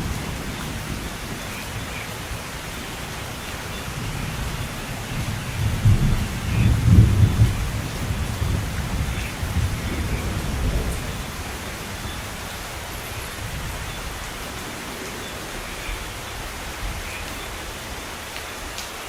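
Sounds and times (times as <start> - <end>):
thunder rumble: 0.0 - 15.4
steady rain falling: 0.0 - 19.0.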